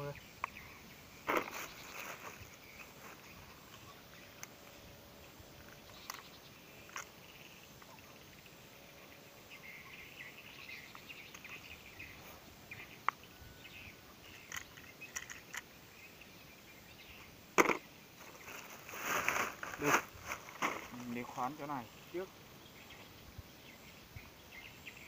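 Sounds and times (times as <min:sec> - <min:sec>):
light high chirping: 0:00.0 - 0:25.0.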